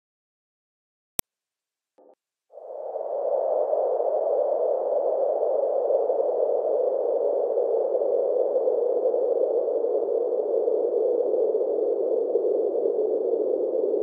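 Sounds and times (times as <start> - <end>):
rushing noise drone: 2.6 - 14.0.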